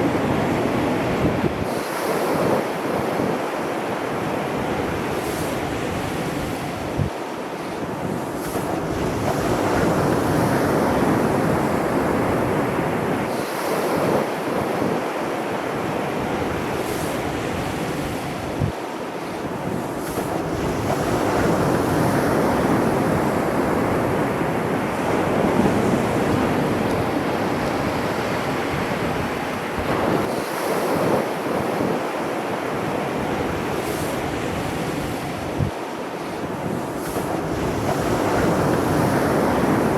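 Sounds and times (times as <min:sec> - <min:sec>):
sea surf breaking: 0:00.0 - 0:39.9
wind buffeting microphone: 0:00.0 - 0:39.9.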